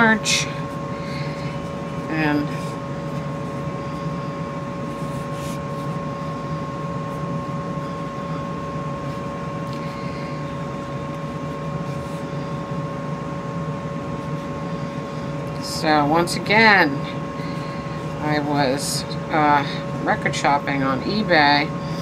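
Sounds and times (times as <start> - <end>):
mechanical hum with high tones: 0.0 - 22.0.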